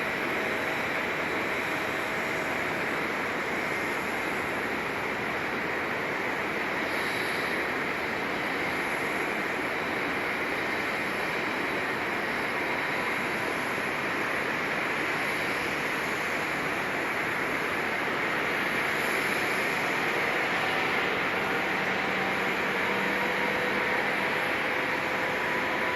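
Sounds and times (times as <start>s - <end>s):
faint high whine: 0.0s - 25.9s
jet engine roar: 0.0s - 25.9s.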